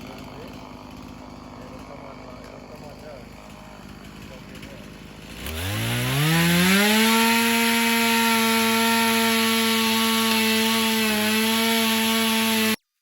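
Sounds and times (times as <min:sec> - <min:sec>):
chainsaw high whine: 0:00.0 - 0:12.8.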